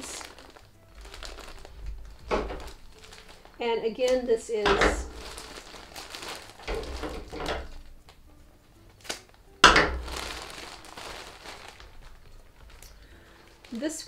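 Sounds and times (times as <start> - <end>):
loud crunch of packaging: 0.0 - 4.3, 5.0 - 7.9, 8.9 - 14.0
plastic packaging rustling: 0.0 - 14.0.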